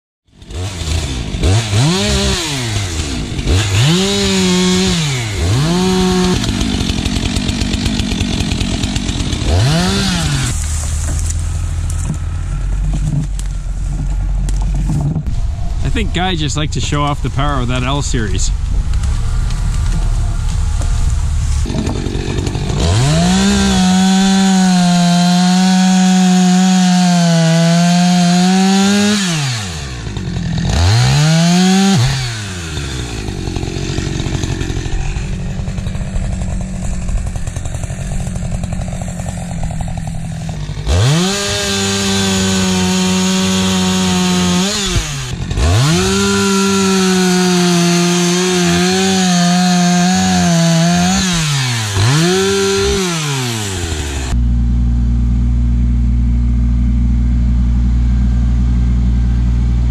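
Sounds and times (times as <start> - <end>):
chainsaw cutting log: 0.3 - 54.4.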